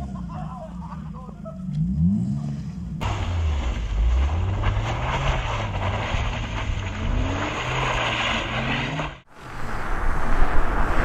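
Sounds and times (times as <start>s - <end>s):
wind and road noise: 1.7s - 11.0s.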